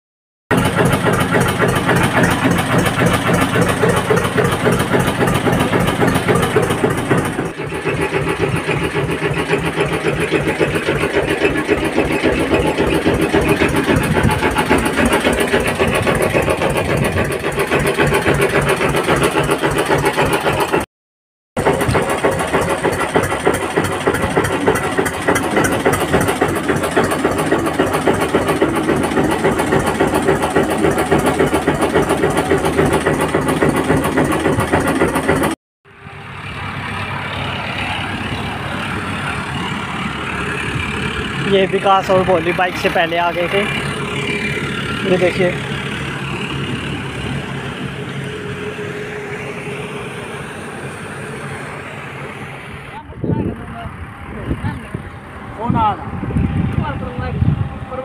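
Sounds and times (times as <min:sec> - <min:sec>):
tractor diesel engine running: 0:00.5 - 0:20.9, 0:21.6 - 0:58.0.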